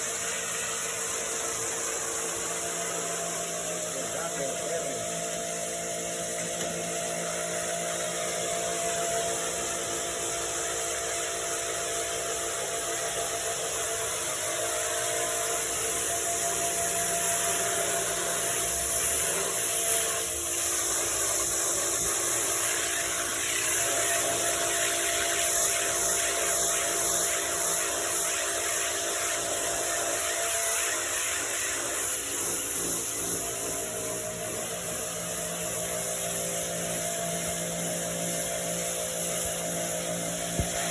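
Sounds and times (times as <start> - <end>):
small motor humming with hiss: 0.0 - 40.9.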